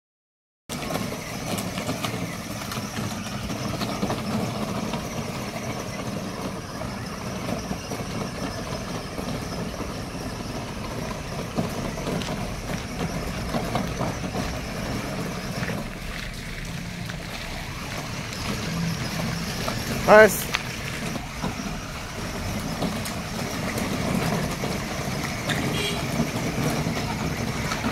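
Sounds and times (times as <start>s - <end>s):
tyres splashing through water: 0.7s - 27.9s.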